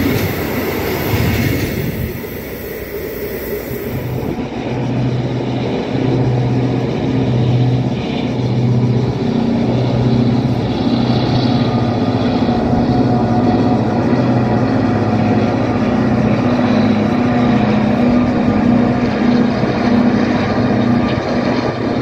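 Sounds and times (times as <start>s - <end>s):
diesel train engine throbbing: 0.0s - 22.0s.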